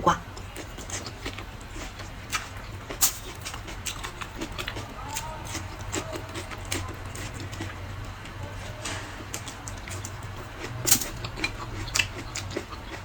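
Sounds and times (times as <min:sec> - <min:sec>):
wet chewing and mouth clicks: 0:00.3 - 0:08.4, 0:09.2 - 0:13.0.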